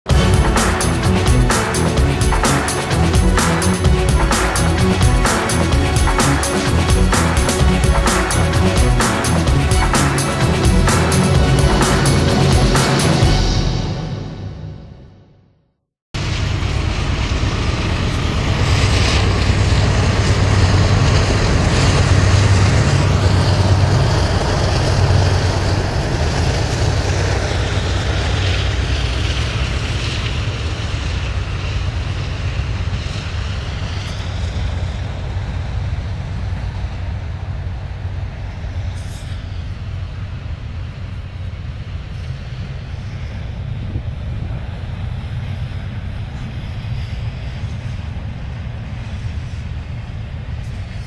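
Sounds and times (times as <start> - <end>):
freight train wheels rumbling: 0.1 - 15.0, 16.2 - 51.0.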